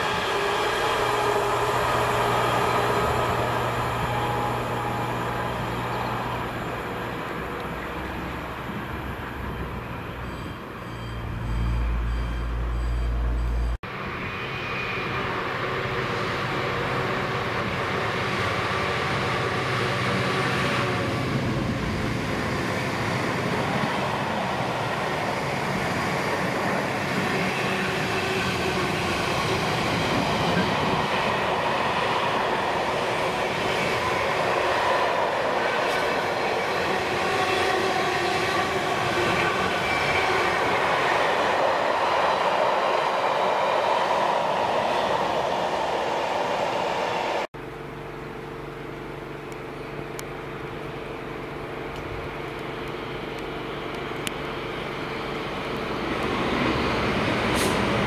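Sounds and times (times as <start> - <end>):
diesel locomotive drone: 0.0 - 58.0.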